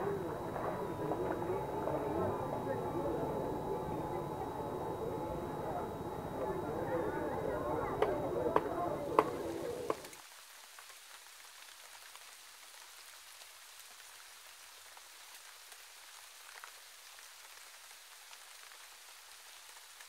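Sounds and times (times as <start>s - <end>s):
light rain on leaves: 0.0s - 20.0s.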